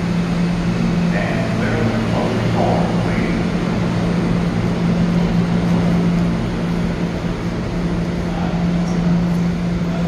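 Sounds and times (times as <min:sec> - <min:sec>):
constant rushing noise: 0:00.0 - 0:10.0
subway car equipment humming: 0:00.0 - 0:10.0.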